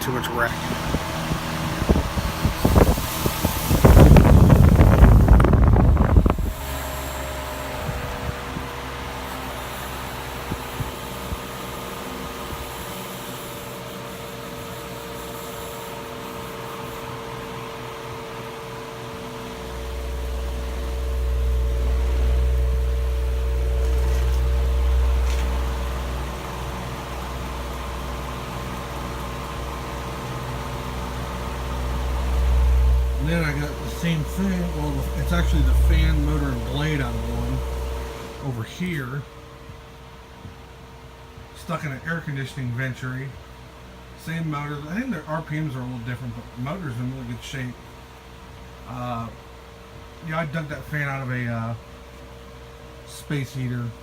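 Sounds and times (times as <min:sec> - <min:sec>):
table fan running: 0:00.0 - 0:54.0.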